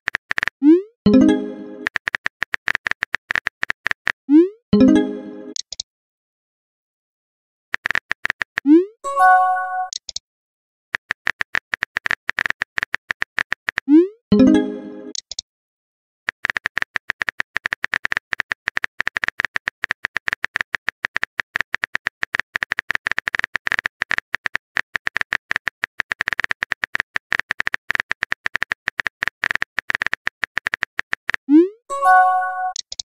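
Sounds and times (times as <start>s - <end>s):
keyboard typing clicks: 0.1s - 4.2s, 4.8s - 5.8s, 7.8s - 8.8s, 9.8s - 10.2s, 11.0s - 15.4s, 16.3s - 33.0s.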